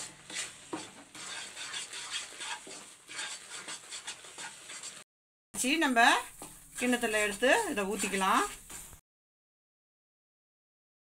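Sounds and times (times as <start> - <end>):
wooden spatula scraping a pan: 0.0 - 9.0.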